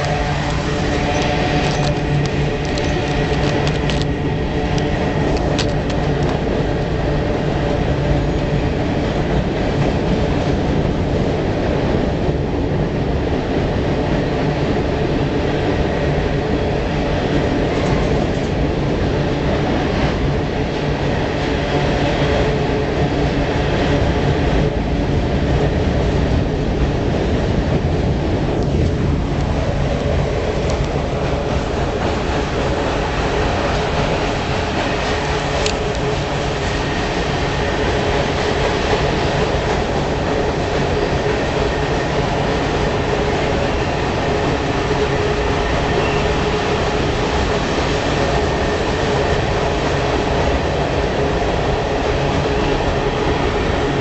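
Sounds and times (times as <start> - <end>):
freight train rumbling over bridge: 0.0 - 54.0.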